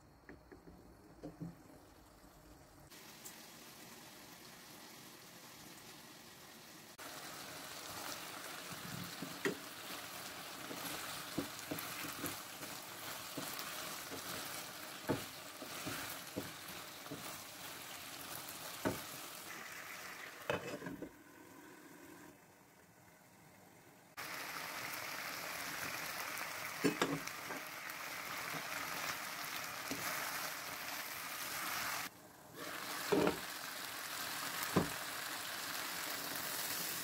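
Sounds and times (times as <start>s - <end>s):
food sizzling in hot oil: 1.2s - 22.4s, 24.1s - 37.0s.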